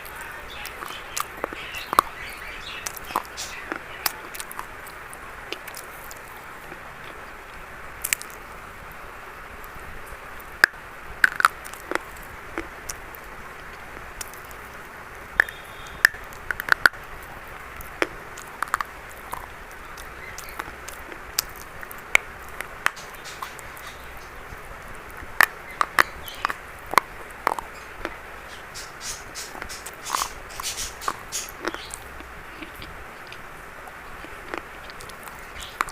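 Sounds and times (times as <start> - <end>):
steady background hiss: 0.0 - 35.9.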